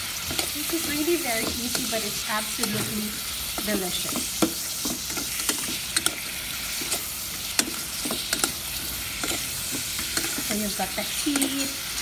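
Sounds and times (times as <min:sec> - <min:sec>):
shrimp sizzling in hot oil: 0:00.0 - 0:12.0.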